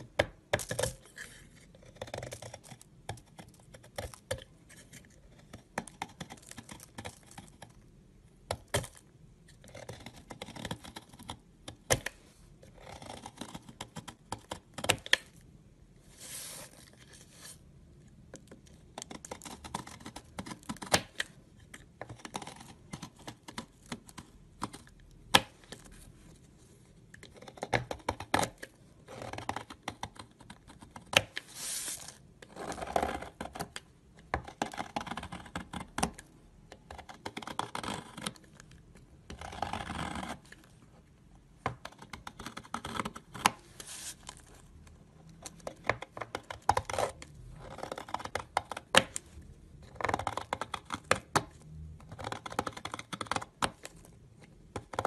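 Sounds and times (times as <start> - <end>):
knife scraping soap: 0.6 - 7.8, 8.5 - 15.4, 18.3 - 26.1, 27.1 - 41.1, 41.7 - 44.6, 45.4 - 55.0.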